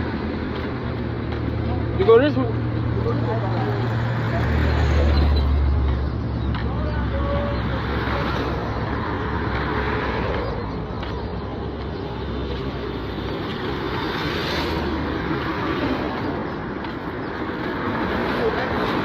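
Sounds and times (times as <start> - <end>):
vehicles driving past: 0.0 - 19.0.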